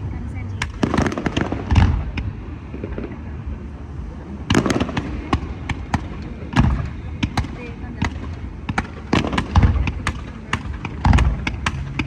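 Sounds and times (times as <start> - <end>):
fireworks sharp bangs: 0.6 - 3.3, 4.5 - 12.0
fireworks cracking: 0.6 - 12.0
fireworks deep boom: 0.6 - 12.0.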